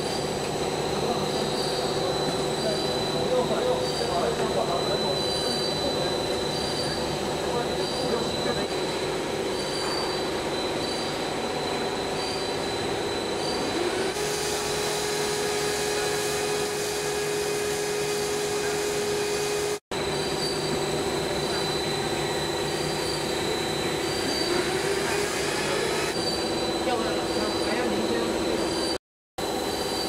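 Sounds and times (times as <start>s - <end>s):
extrusion line mechanical noise: 0.0s - 30.0s
steady machine whine: 0.0s - 30.0s.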